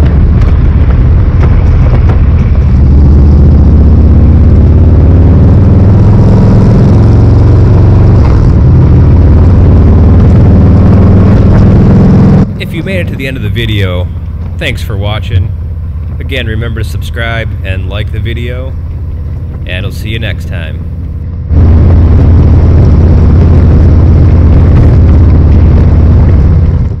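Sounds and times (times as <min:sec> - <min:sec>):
motorcycle exhaust loud and deep: 0:00.0 - 0:27.0.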